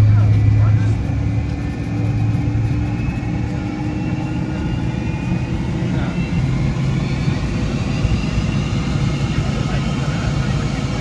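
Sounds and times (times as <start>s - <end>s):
jet engine hum in cabin: 0.0s - 11.0s.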